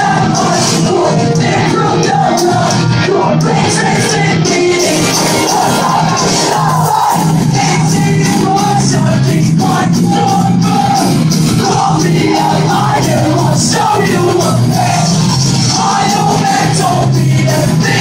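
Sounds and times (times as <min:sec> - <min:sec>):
lead vocal singing: 0:00.0 - 0:18.0
live pop-punk band: 0:00.0 - 0:18.0.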